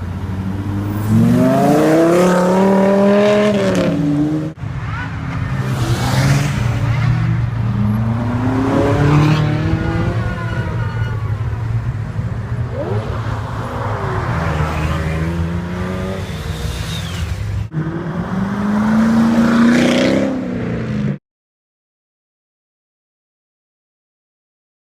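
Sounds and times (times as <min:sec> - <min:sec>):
car engines revving past: 0:00.0 - 0:04.6, 0:05.2 - 0:21.2.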